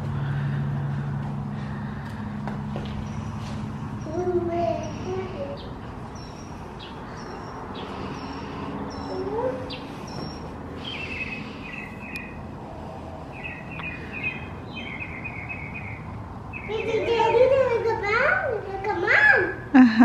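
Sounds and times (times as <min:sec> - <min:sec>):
birds chirping: 0:00.0 - 0:18.0
background noise: 0:00.0 - 0:20.0.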